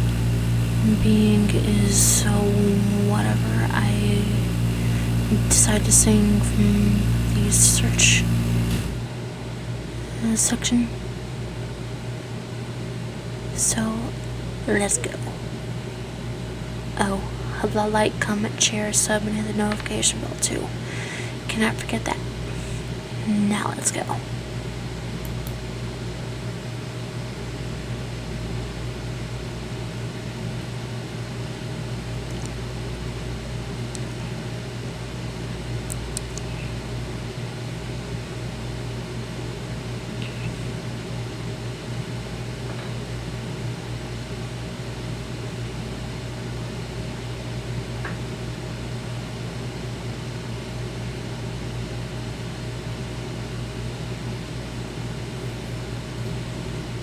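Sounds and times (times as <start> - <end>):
low hum with hiss: 0.0 - 57.0.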